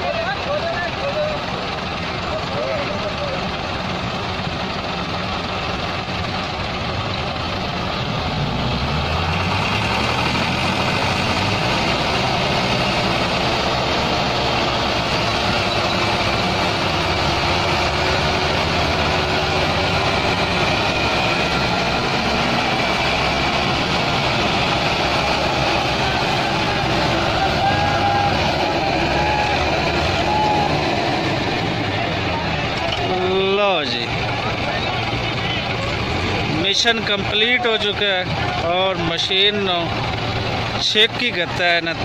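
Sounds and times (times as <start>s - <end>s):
tractor diesel engines under load: 0.0s - 42.0s.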